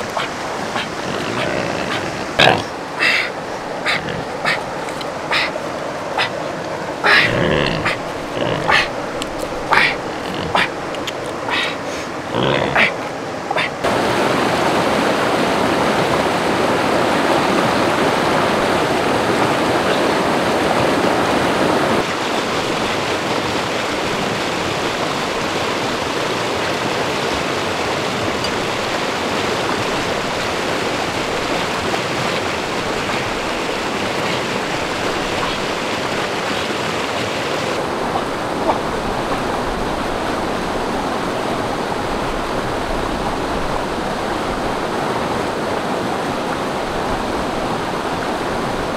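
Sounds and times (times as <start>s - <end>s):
river water over rapids: 0.0s - 48.9s.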